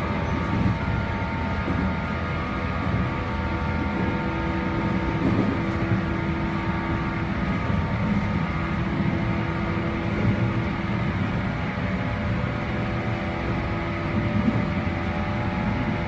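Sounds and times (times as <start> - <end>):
humming train running gear: 0.0 - 16.0
train wheels rumbling on rails: 0.0 - 16.0.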